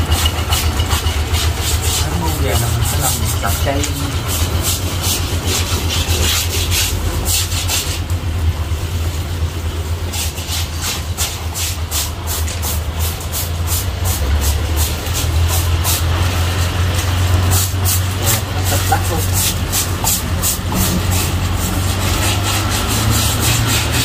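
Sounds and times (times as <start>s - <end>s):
low machine hum: 0.0s - 24.0s
hose water splashing on tree: 0.3s - 8.2s, 10.0s - 24.0s.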